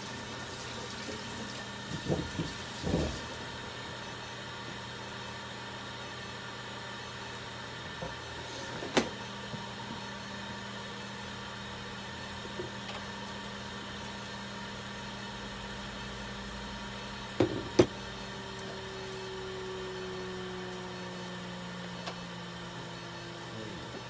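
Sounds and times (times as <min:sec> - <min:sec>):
electrical hum of equipment: 0:00.0 - 0:24.0.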